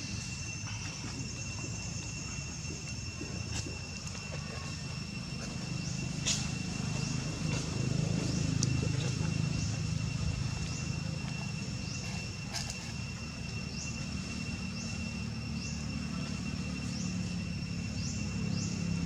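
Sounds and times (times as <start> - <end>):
high whine: 0.0 - 19.0.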